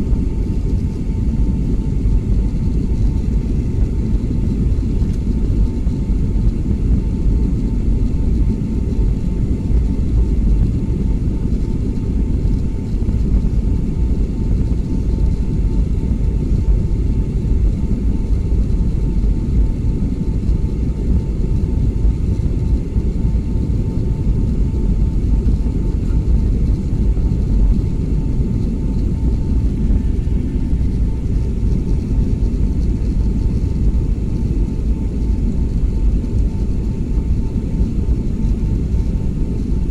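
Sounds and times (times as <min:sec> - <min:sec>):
airliner cabin rumble: 0:00.0 - 0:39.9
faint steady whine: 0:00.0 - 0:39.9.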